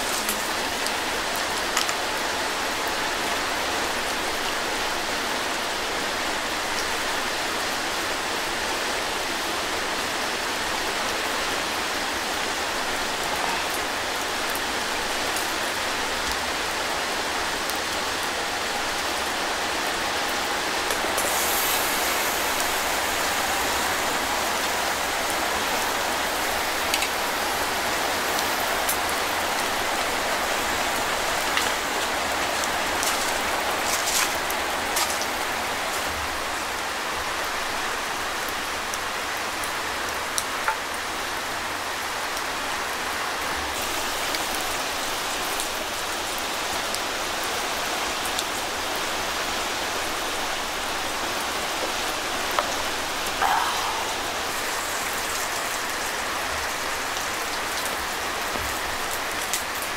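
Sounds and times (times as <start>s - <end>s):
rain falling on a tent: 0.0s - 59.9s.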